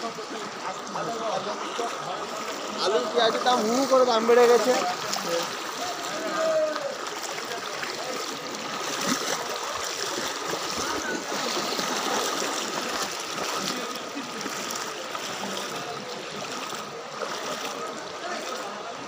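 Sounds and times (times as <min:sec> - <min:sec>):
water splashing around wading legs: 0:00.0 - 0:19.0.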